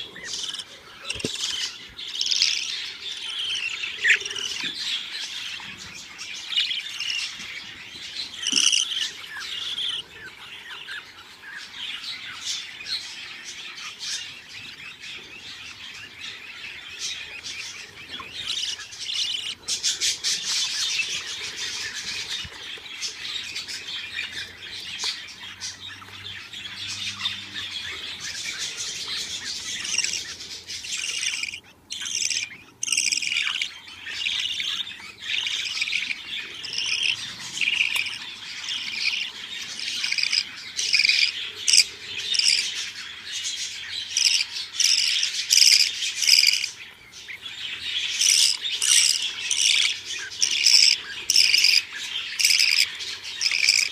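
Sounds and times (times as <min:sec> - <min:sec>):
budgerigar chicks cheeping: 0:00.0 - 0:53.9.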